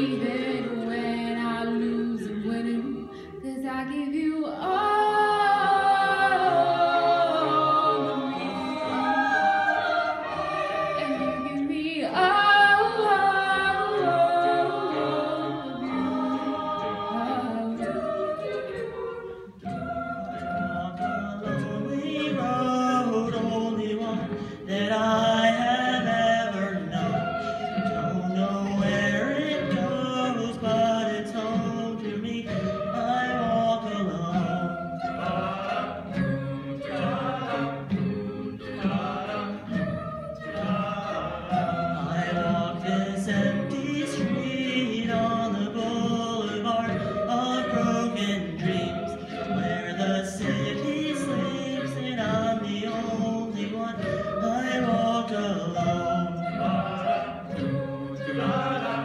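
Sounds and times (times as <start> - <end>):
backing vocal harmonies: 0.0 - 59.0.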